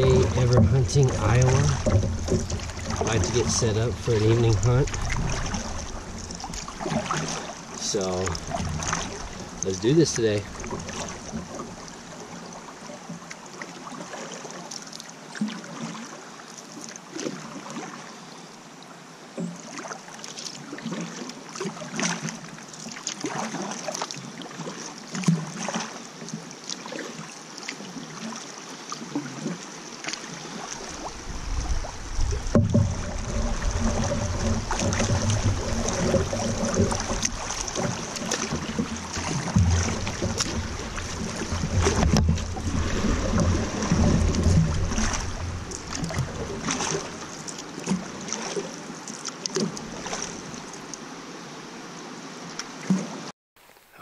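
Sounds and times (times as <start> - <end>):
paddle strokes in water: 0.0 - 18.7, 19.3 - 54.0
moving water: 0.0 - 54.0.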